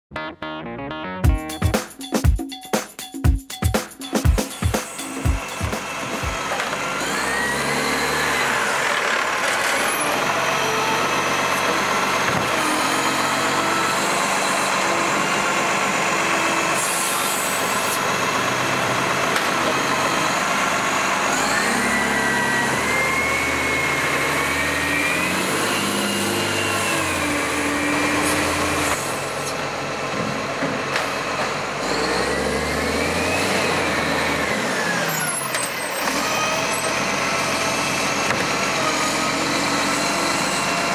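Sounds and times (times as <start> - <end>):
diesel engine running and revving: 4.5 - 40.9
hydraulic whine: 4.8 - 29.8, 31.7 - 40.9.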